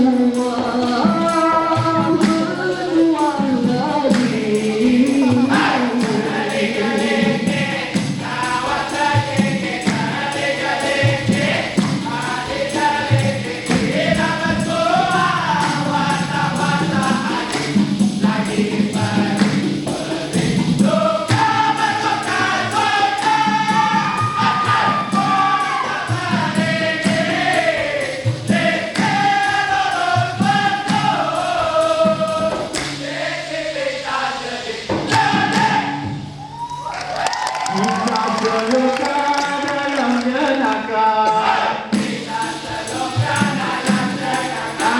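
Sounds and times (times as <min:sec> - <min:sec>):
percussion beat: 0:00.0 - 0:39.9, 0:41.4 - 0:44.9
vocal group singing in harmony: 0:00.0 - 0:44.9.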